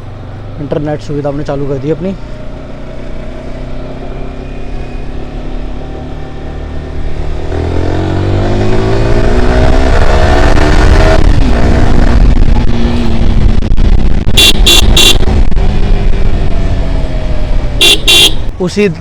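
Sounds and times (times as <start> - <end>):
motorcycle engine accelerating: 1.9 - 18.6.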